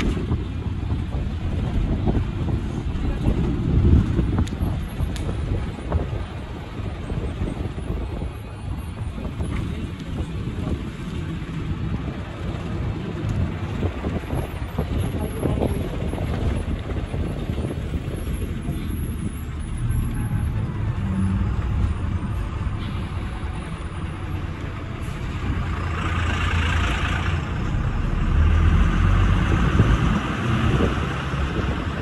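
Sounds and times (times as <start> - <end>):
bus engine rumbling: 0.0 - 32.0.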